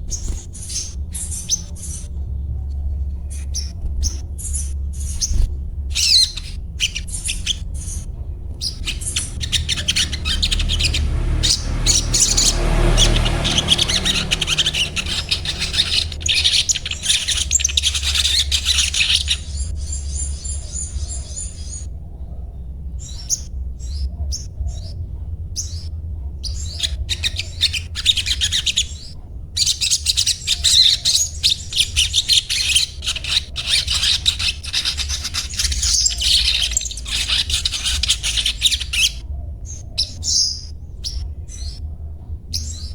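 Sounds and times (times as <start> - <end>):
bird twittering high chirps: 0.0 - 41.9, 42.5 - 42.9
steady low hum: 0.0 - 42.9.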